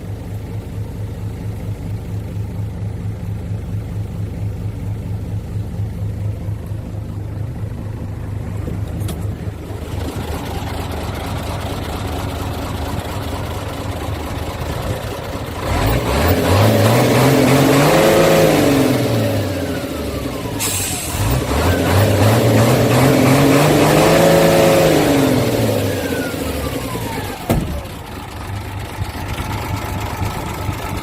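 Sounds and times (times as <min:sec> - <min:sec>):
diesel truck engine idling and revving: 0:00.0 - 0:31.0.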